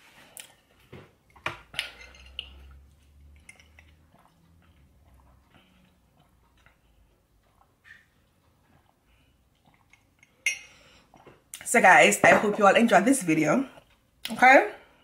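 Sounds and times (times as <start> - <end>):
chewing food: 0.1 - 11.7, 13.7 - 14.4.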